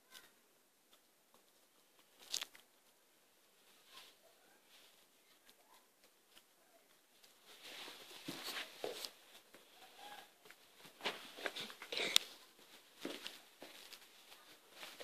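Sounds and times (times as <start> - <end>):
puppy paws clicking and scuffing: 0.9 - 3.0, 3.6 - 15.0.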